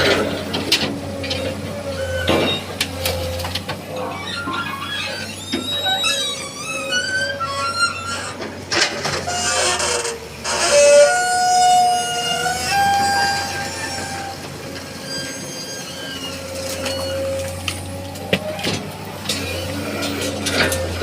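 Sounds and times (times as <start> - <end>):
excavator engine hum: 0.0 - 21.0
high-pitched squealing: 1.1 - 8.4, 9.0 - 21.0.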